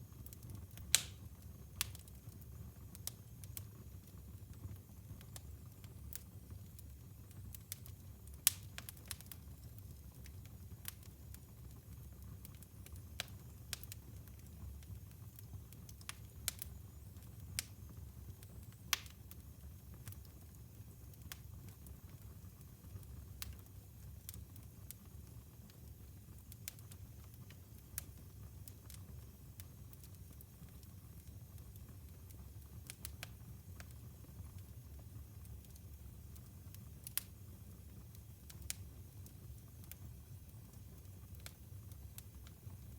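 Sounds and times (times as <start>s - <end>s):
low rumble of flames: 0.0s - 42.9s
wood fire crackling and popping: 0.0s - 42.9s.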